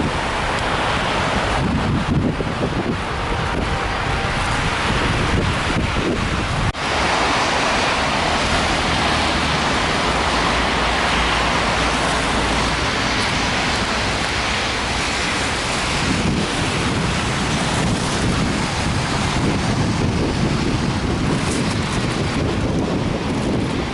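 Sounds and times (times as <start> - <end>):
strong wind buffeting microphone: 0.0 - 23.9.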